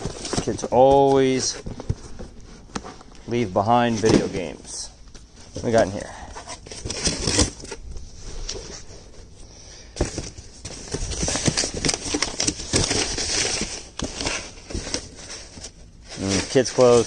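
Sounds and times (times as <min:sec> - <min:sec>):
fabric and cardboard rustling: 0:00.0 - 0:09.4, 0:10.0 - 0:17.0.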